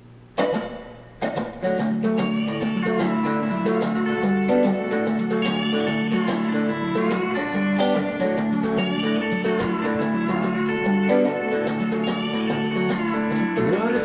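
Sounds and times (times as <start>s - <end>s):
guitar-led instrumental music: 0.4s - 14.0s.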